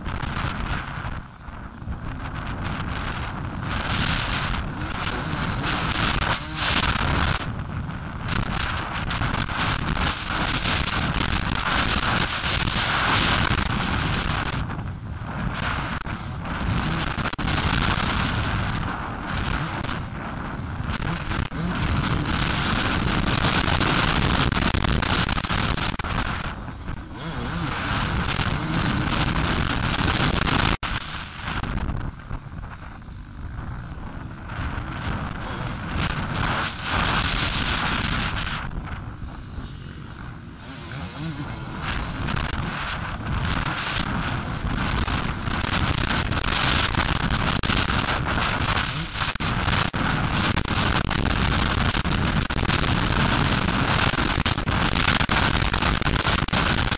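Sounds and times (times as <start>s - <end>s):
motorcycle engine under throttle: 0.0s - 56.9s
wind buffeting microphone: 0.0s - 56.9s.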